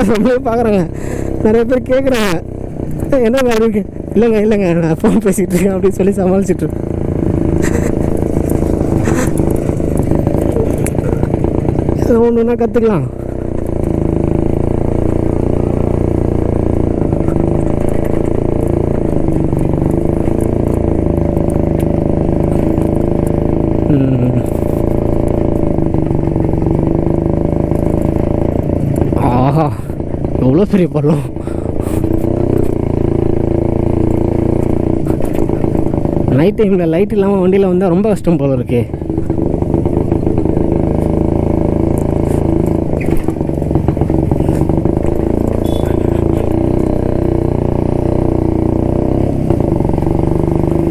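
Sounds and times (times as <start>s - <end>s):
motorcycle two-stroke engine running: 0.0s - 50.9s.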